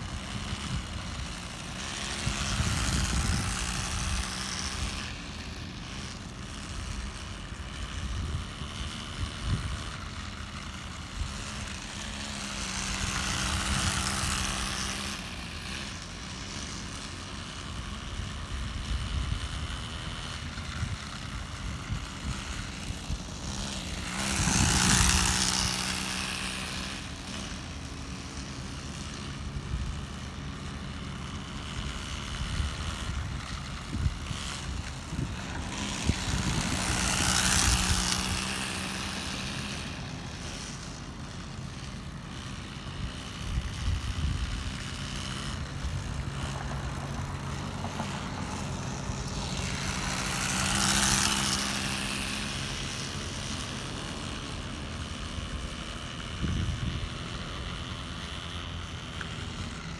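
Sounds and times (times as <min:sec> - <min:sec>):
small rc car engine running: 0:00.0 - 0:59.9.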